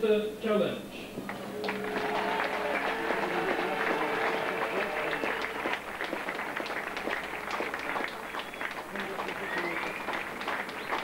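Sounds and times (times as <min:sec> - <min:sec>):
crowd applauding: 0:01.2 - 0:11.0.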